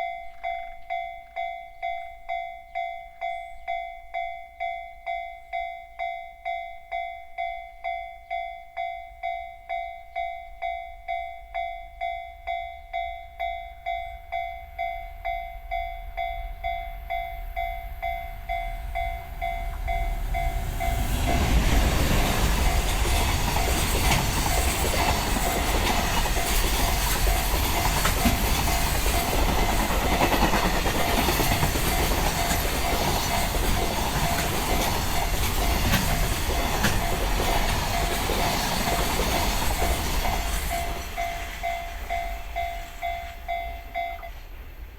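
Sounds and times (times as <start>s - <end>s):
level-crossing bell ringing: 0.0s - 21.9s, 22.6s - 44.5s
freight train passing: 8.7s - 44.9s.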